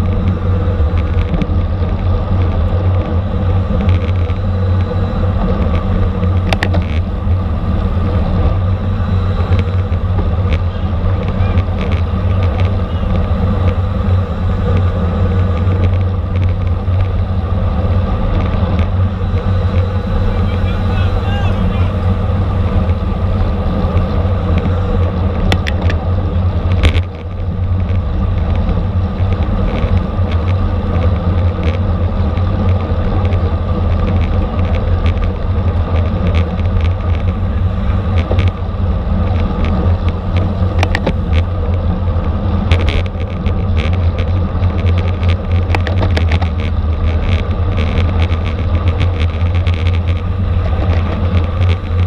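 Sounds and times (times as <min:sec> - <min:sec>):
bicycle clicks: 0:00.0 - 0:52.0
road rumble: 0:00.0 - 0:52.0.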